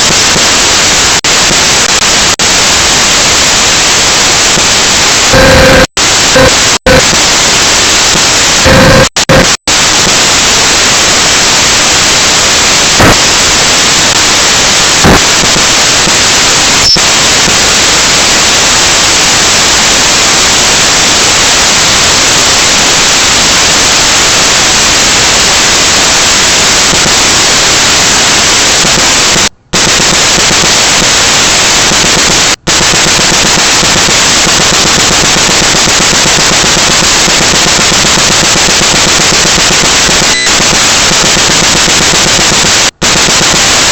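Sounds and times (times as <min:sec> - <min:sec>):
loud static hiss: 0:00.0 - 0:43.9.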